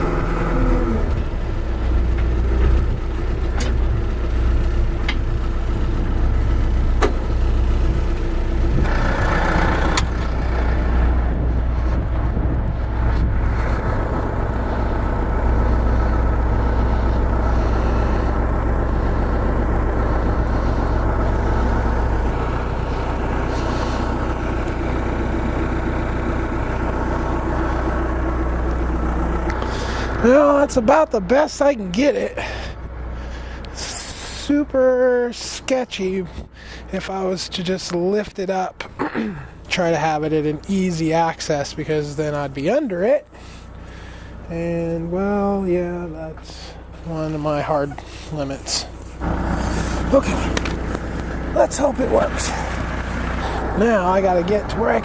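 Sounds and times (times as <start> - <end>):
backhoe engine running: 0.0 - 55.0.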